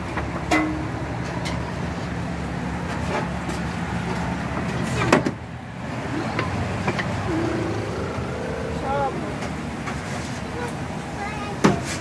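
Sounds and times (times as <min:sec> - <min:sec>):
city street noise: 0:00.0 - 0:12.0.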